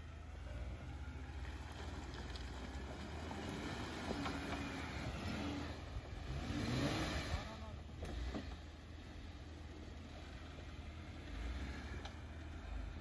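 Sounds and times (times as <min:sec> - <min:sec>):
vehicle engine running low: 0:00.0 - 0:13.0.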